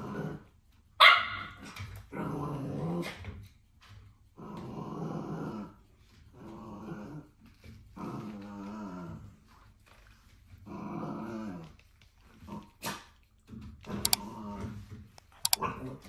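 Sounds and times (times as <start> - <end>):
puppy growling: 0.0 - 0.6, 1.6 - 3.4, 4.2 - 16.0.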